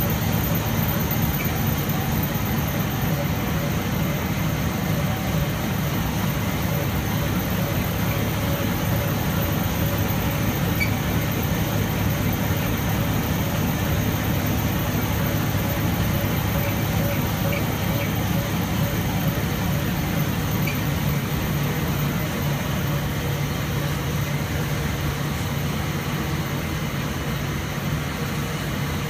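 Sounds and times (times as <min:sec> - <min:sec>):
printing press drone and hum: 0:00.0 - 0:29.0.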